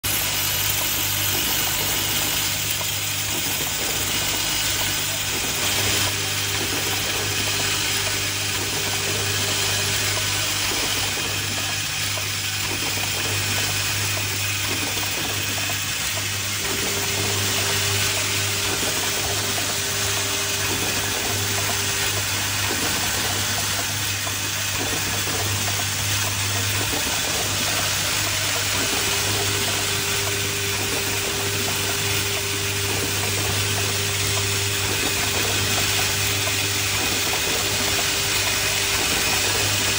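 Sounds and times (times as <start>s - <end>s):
machine low hum: 0.1s - 39.9s.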